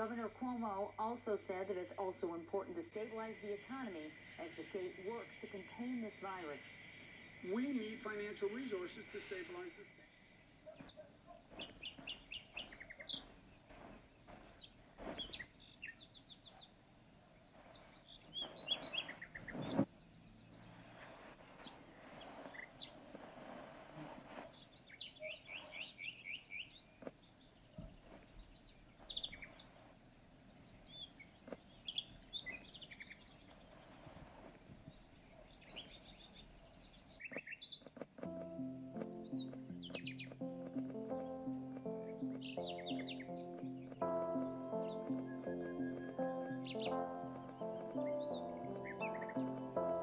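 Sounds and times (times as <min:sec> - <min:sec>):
songbirds trilling: 0:07.3 - 0:23.2, 0:24.2 - 0:29.9, 0:30.5 - 0:50.0.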